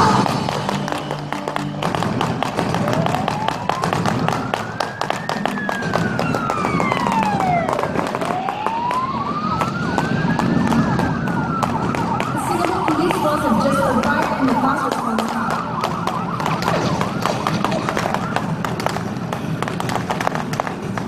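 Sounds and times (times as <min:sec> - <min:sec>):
warbling siren: 0:00.0 - 0:19.3
siren wailing: 0:00.0 - 0:19.6.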